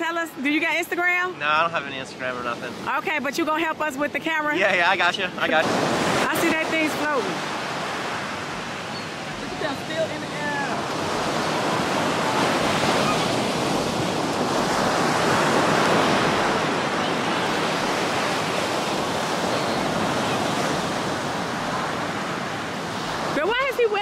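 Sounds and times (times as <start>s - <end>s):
ocean surf breaking on beach: 4.4s - 24.0s.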